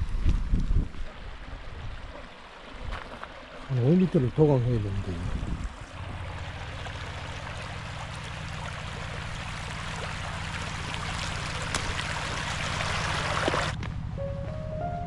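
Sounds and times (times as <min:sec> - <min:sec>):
mountain stream flowing: 0:00.0 - 0:13.8.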